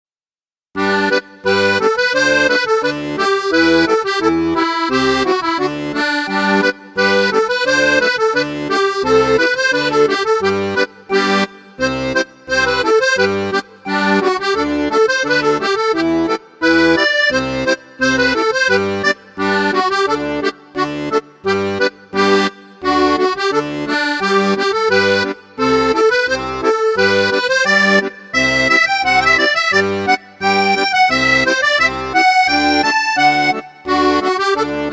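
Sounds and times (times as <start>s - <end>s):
instrumental music with bouncing beat: 0.8s - 34.9s.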